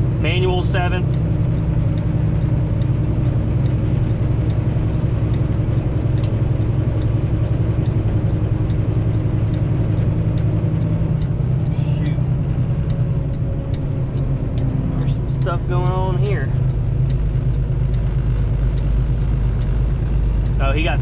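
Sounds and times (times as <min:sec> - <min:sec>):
truck diesel engine drone: 0:00.0 - 0:21.0.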